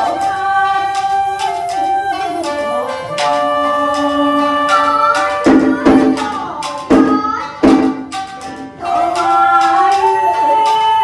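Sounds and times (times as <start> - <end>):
karaoke backing track: 0.0 - 11.0
shakuhachi folk melody: 0.0 - 11.0.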